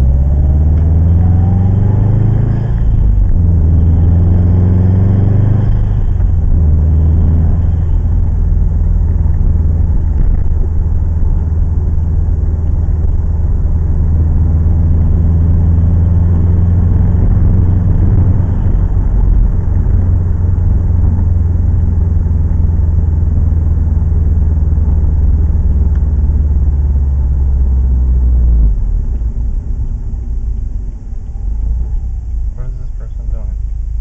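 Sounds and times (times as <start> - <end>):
car engine and road drone: 0.0 - 34.0.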